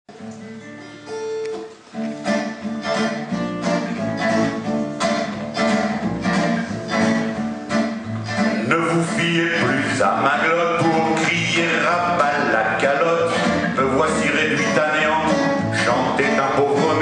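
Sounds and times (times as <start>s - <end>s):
acoustic guitar: 0.1s - 17.0s
double bass: 2.8s - 17.0s.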